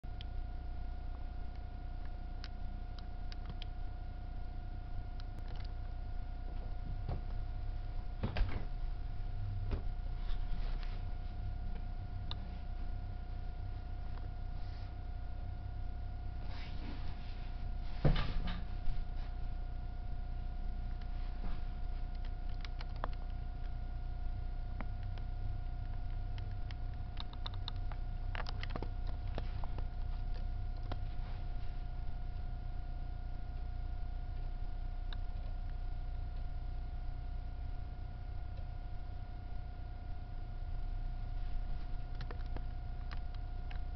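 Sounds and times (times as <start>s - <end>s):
constant hum: 0.0s - 43.9s.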